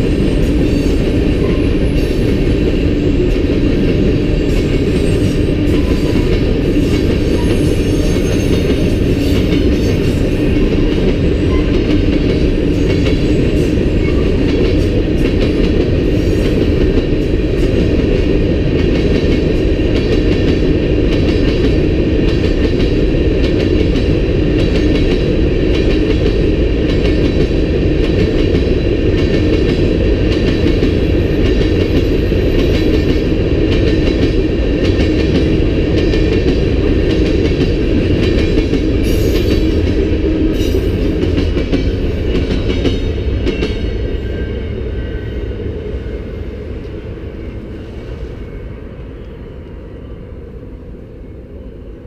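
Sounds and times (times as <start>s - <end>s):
steel wheels rumbling on rail: 0.0s - 52.0s.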